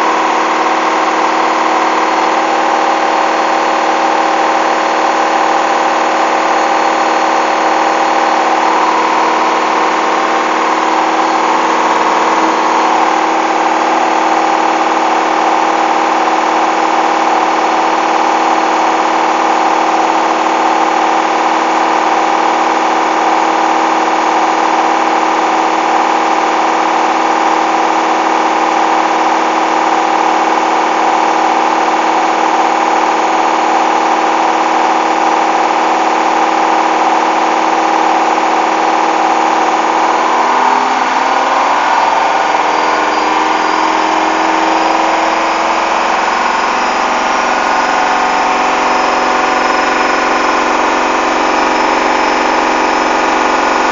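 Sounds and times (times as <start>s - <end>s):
washing machine spin whine: 0.0s - 53.9s.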